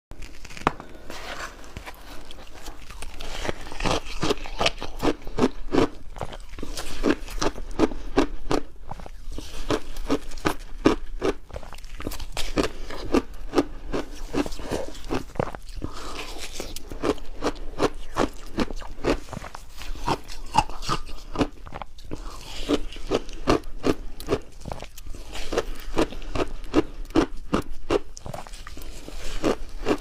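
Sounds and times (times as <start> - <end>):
ice being chewed: 0.2 - 30.0.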